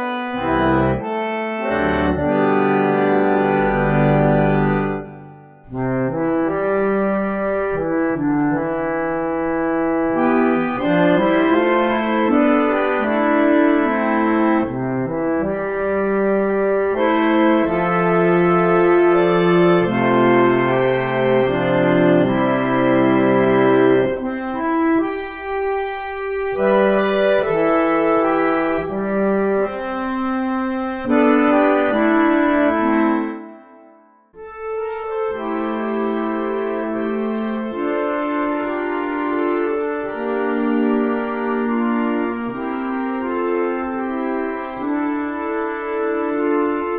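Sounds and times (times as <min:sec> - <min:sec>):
reed organ playing chords: 0:00.0 - 0:46.9.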